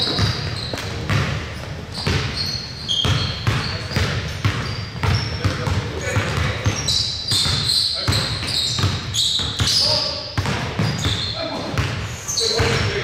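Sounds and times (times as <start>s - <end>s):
basketball bouncing: 0.0s - 13.0s
sneakers squeaking on floor: 0.0s - 13.0s.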